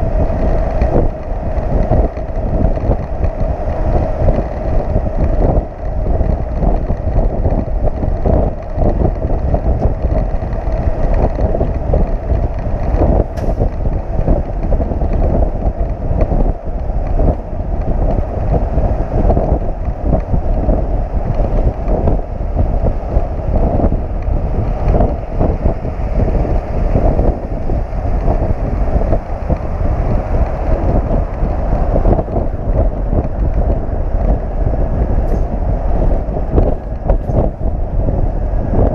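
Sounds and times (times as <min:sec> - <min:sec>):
truck road noise: 0:00.0 - 0:38.9
wind buffeting microphone: 0:00.0 - 0:38.9.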